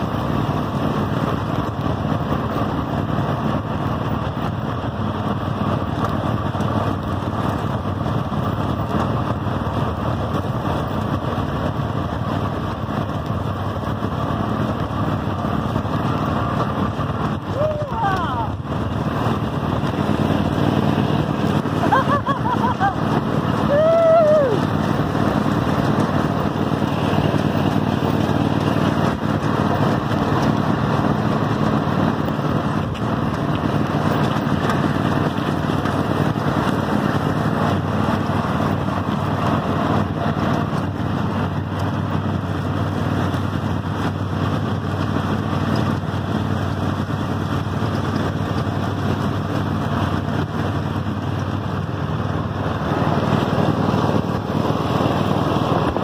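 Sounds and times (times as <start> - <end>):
riding lawn mower engine running: 0.0 - 56.0.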